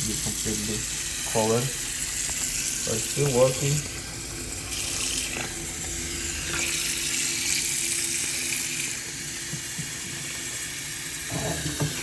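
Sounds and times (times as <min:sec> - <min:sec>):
tap water filling sink: 0:00.0 - 0:12.0.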